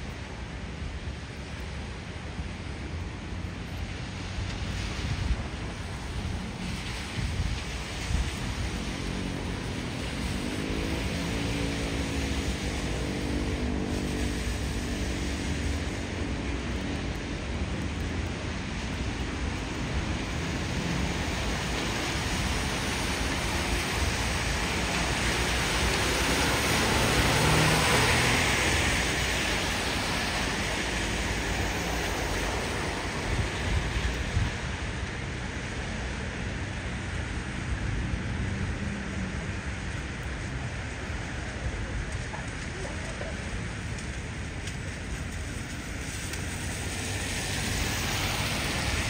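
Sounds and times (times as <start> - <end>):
steady rushing noise: 0.0 - 49.0.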